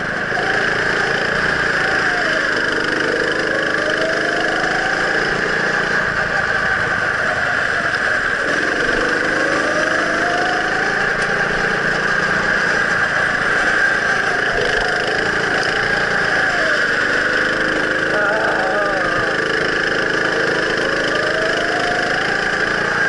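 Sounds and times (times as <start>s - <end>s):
wind and tyre noise: 0.0s - 18.2s, 18.9s - 23.0s
go-kart engine revving: 0.0s - 23.0s.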